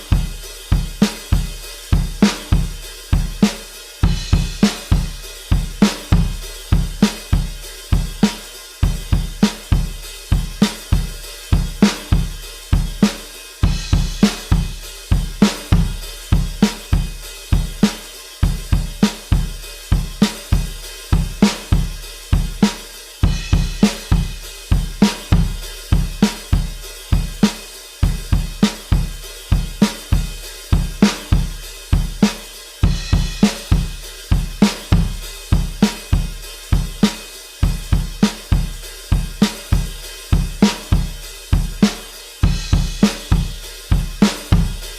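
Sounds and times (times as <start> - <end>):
drum kit playing rock beat: 0.0 - 44.9.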